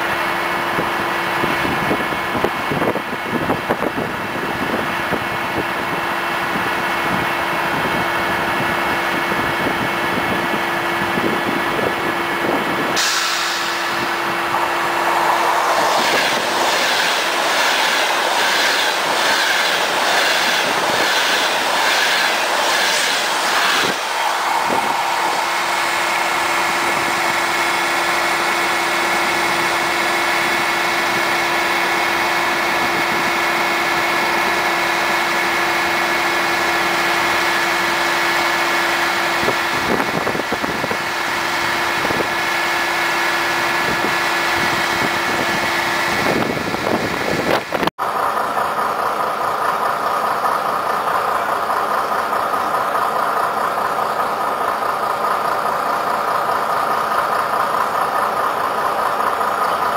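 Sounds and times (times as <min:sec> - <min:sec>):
passing train rush: 0:00.0 - 0:59.9
standing train hum: 0:00.0 - 0:59.9.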